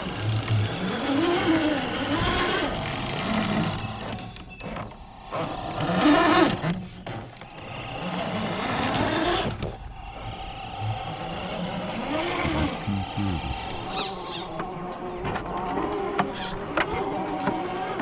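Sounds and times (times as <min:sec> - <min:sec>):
rc truck motor whining: 0:00.0 - 0:18.0.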